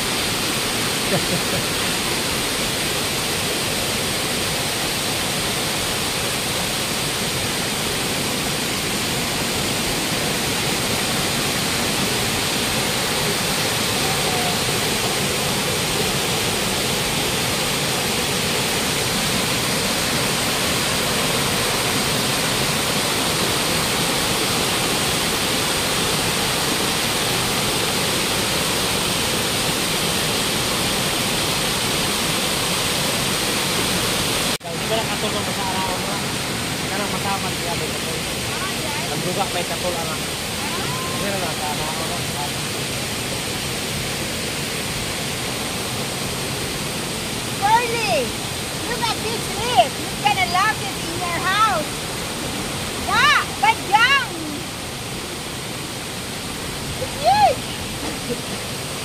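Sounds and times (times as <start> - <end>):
waterfall splashing: 0.0 - 59.0.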